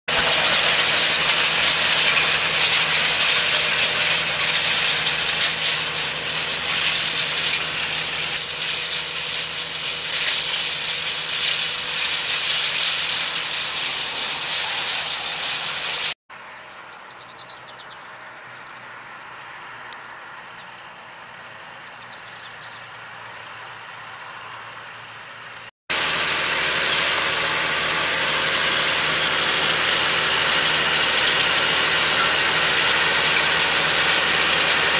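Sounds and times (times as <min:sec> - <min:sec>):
tractor diesel engine under load: 0:00.0 - 0:16.2, 0:17.8 - 0:34.9.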